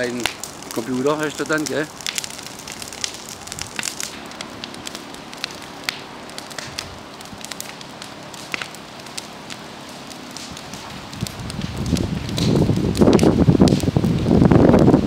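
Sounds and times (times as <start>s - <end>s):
burning wood crackling and popping: 0.0s - 15.0s
campfire flames hissing: 0.0s - 15.0s.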